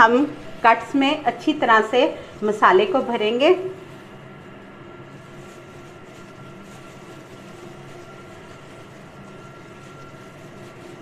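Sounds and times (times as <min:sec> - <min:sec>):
plastic glove rustling: 0:00.0 - 0:11.0
steady machine hum: 0:00.0 - 0:11.0.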